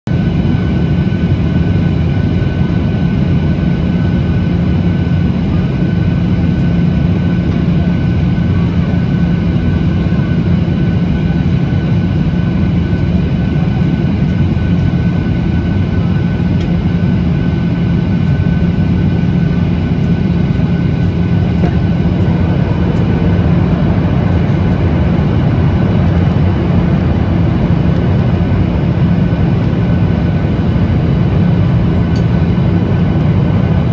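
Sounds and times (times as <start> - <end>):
jet engine rumble: 0.1 - 33.9.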